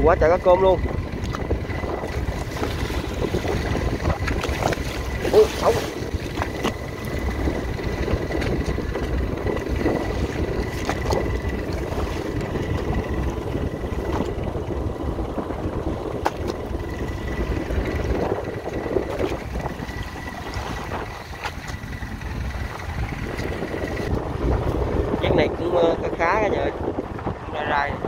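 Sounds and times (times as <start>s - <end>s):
boat engine rumble: 0.0s - 28.0s
water rushing along hull: 0.0s - 28.0s.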